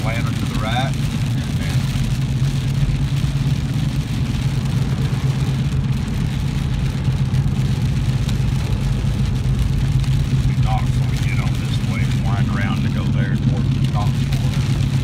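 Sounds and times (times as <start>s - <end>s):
car engine and road hum: 0.0s - 15.0s
tyres hissing on wet pavement: 0.0s - 15.0s.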